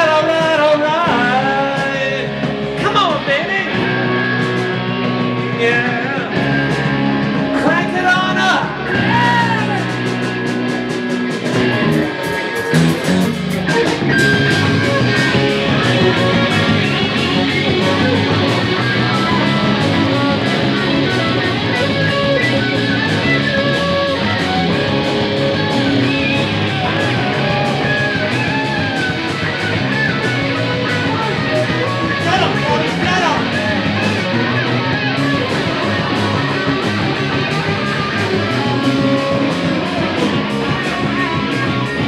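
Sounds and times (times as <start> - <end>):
electric guitar lead: 0.0 - 42.0
rock band instrumental: 0.0 - 42.0.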